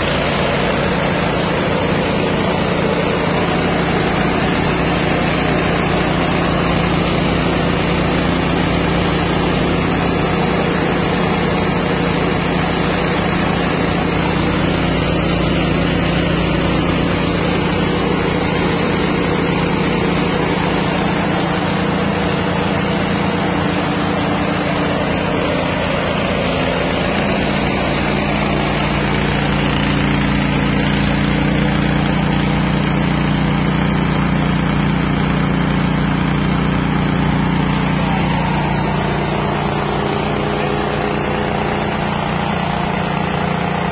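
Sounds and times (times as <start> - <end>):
rice milling machine running: 0.0 - 43.9.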